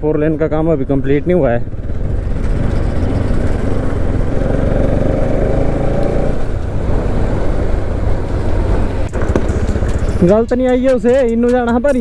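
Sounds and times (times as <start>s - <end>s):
wind and road rumble: 0.0s - 12.0s
motorcycle engine running: 0.1s - 12.0s.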